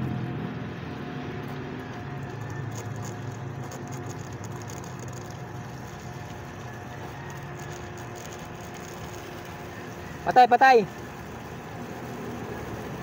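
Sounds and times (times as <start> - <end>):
water pump motor humming: 0.0 - 13.0
water spraying: 0.7 - 13.0.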